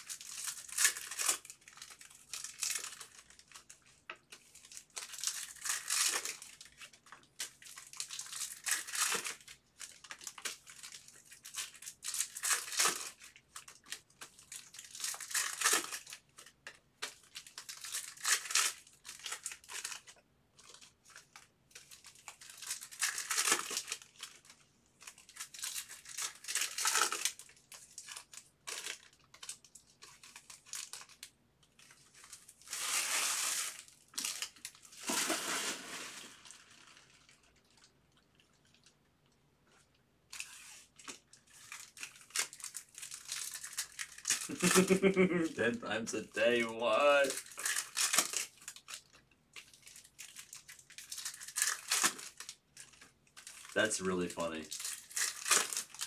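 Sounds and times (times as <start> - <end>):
foil wrappers crinkling and tearing: 0.0 - 38.9, 40.3 - 56.0.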